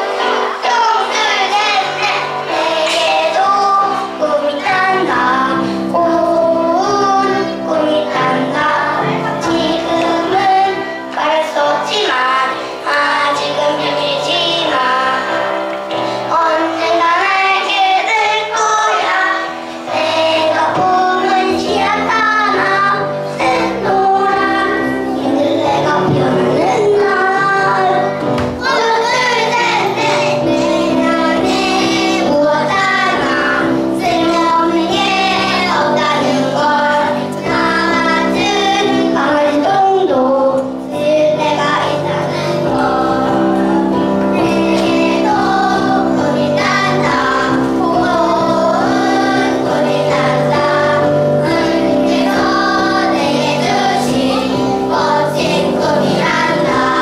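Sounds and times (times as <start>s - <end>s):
children singing: 0.0s - 57.0s
instrumental accompaniment: 0.0s - 57.0s.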